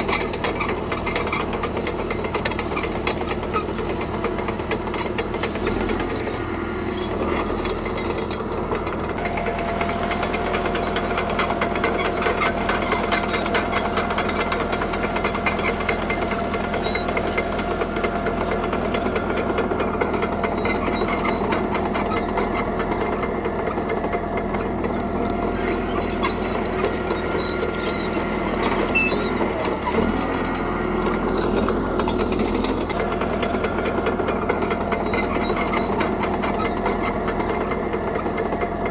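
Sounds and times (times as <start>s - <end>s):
bulldozer diesel engine running: 0.0s - 38.9s
tracks clanking and rattling: 0.0s - 38.9s.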